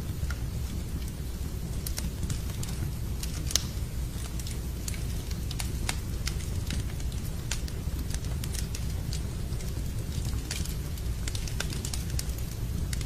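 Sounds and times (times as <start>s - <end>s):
steady low rumble: 0.0s - 13.0s
wood fire crackling: 0.0s - 13.0s.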